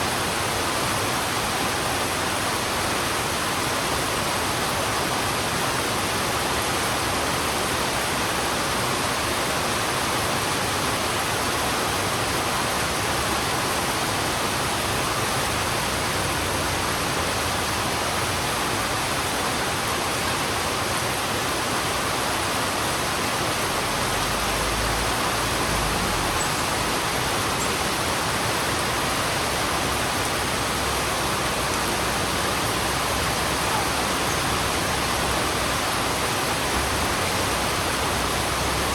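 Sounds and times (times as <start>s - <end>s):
heavy rain on a road: 0.0s - 38.9s.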